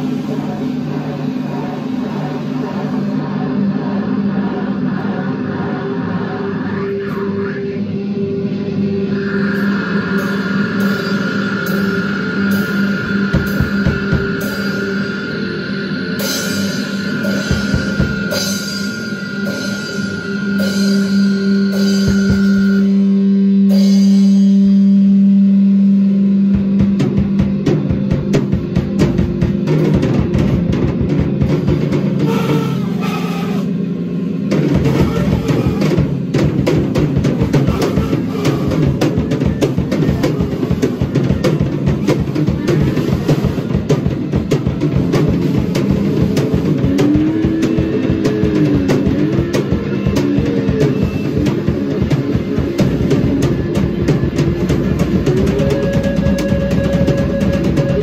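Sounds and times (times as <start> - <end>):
droning tone with pulsing hiss: 0.0 - 58.0
electric bass: 0.0 - 58.0
fast drumming with cymbals: 9.2 - 25.2, 26.3 - 58.0.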